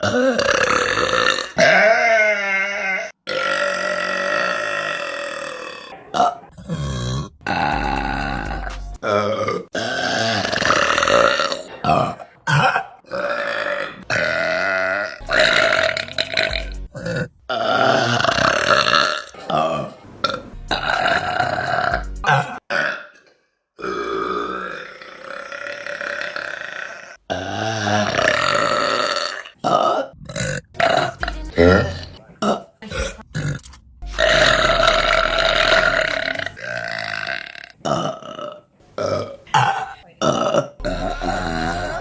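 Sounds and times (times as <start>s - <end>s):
women burping: 0.0s - 42.0s.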